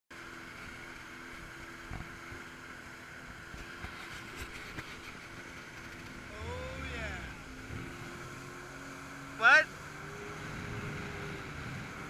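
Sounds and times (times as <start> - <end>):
watercraft engine humming: 0.1 - 12.0.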